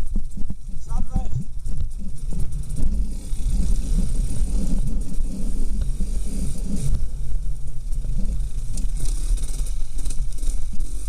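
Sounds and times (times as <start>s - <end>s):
dirt bike engine low revs: 0.0s - 11.0s.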